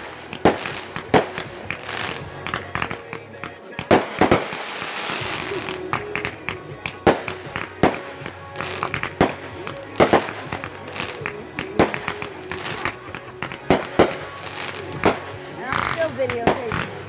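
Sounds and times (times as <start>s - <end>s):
fireworks bangs: 0.0s - 17.0s
small firework pops: 0.0s - 17.0s.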